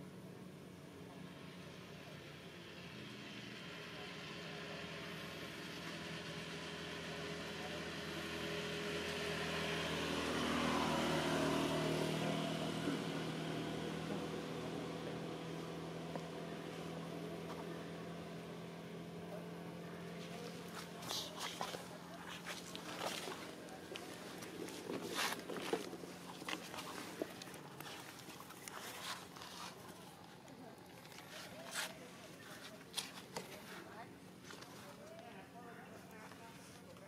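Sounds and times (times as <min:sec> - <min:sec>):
vehicle engine passing by: 0:02.4 - 0:35.0.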